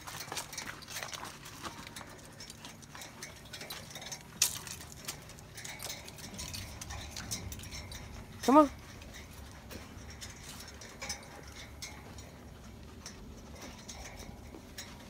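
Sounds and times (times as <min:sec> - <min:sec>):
dog claws clicking on metal grating: 0:00.0 - 0:15.0.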